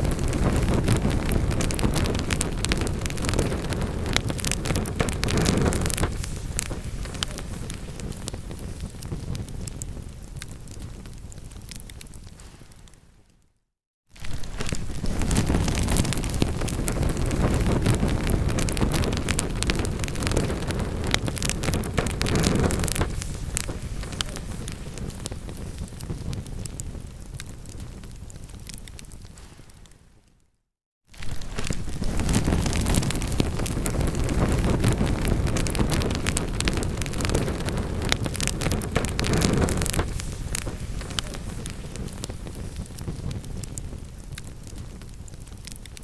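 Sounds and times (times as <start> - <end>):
flames rushing: 0.0 - 13.0, 14.2 - 29.8, 31.2 - 46.0
low rumble of fire: 0.0 - 13.4, 14.2 - 30.2, 31.1 - 46.0
wood fire crackling and popping: 0.0 - 13.4, 14.2 - 30.2, 31.1 - 46.0.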